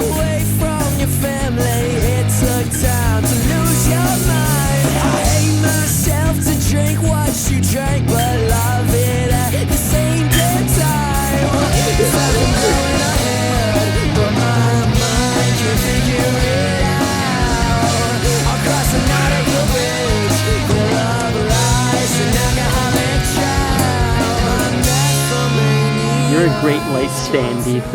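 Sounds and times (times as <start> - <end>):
rock song with singing: 0.0 - 27.9.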